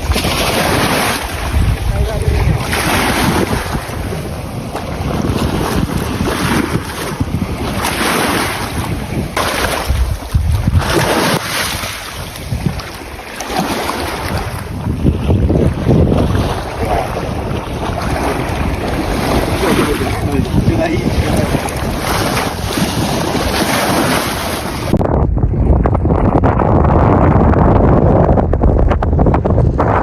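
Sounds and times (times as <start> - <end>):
waves washing on shore: 0.0 - 25.0
wind buffeting microphone: 0.0 - 30.0.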